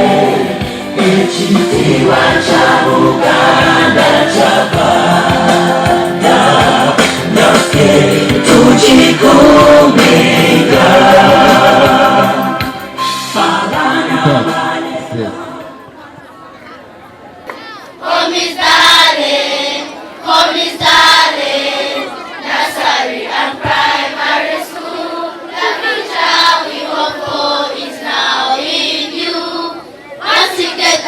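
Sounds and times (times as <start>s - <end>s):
children singing together: 0.0s - 15.8s, 18.0s - 31.0s.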